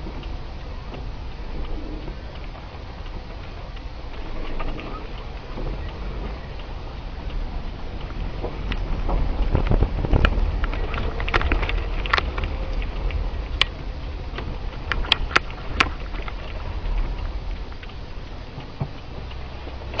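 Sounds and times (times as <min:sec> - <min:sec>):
car cabin low rumble: 0:00.0 - 0:20.0
sharp clicks: 0:00.0 - 0:20.0
tyres hissing on wet road: 0:00.0 - 0:20.0.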